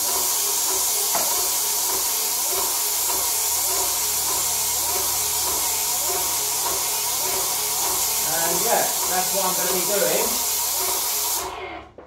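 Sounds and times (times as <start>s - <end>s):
paint sprayer hissing: 0.0s - 11.6s.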